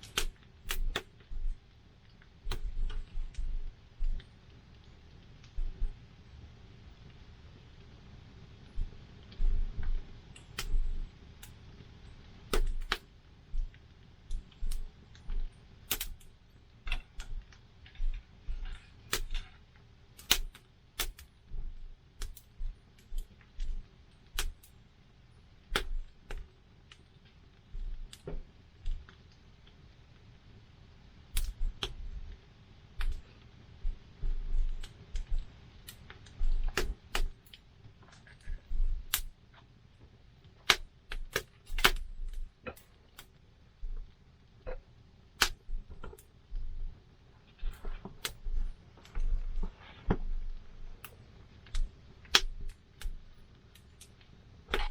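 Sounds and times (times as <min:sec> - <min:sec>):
campfire crackling: 0:00.0 - 0:39.3, 0:39.9 - 0:54.9
faint low rumble: 0:00.0 - 0:54.9.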